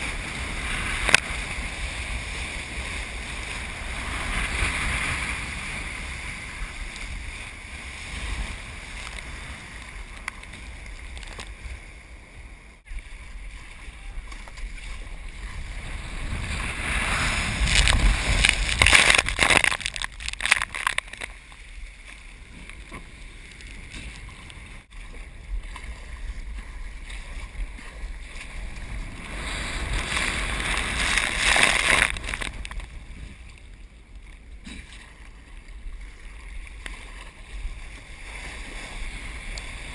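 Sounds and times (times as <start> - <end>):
ocean surf breaking: 0.0 - 33.4
wind rumble on microphone: 0.0 - 39.9.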